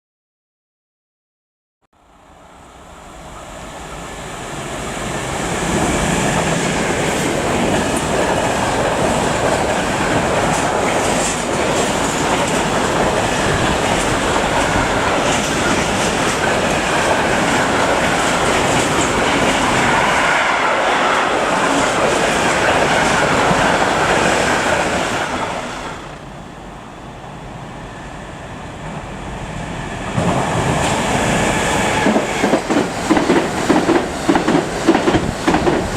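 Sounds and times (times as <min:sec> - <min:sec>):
train passing: 0:02.0 - 0:35.9.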